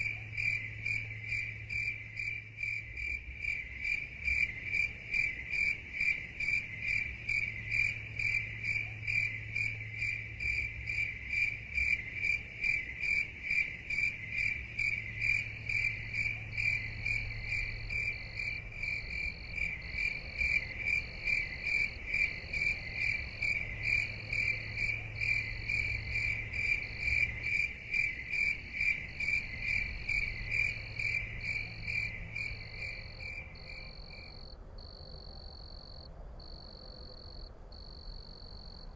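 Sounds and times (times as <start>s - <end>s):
cricket chirping: 0.0s - 38.9s
high pulsing insect call: 0.0s - 38.9s.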